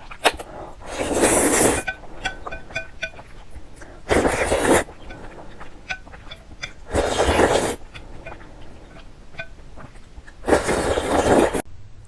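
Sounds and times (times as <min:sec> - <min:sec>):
person slurping noodles: 0:00.0 - 0:11.6
soft chewing: 0:00.0 - 0:11.6.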